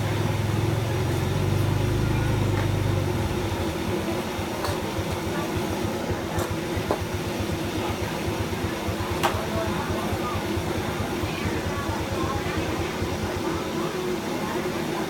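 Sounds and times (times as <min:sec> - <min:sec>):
gas burner rumbling: 0:00.0 - 0:15.0.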